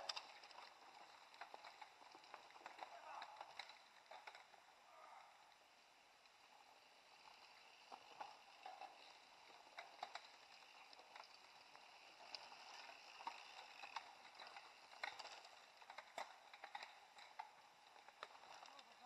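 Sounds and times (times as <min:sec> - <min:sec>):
mountain bikes clicking and rattling: 0:00.0 - 0:19.0
steady low hiss: 0:00.0 - 0:19.0.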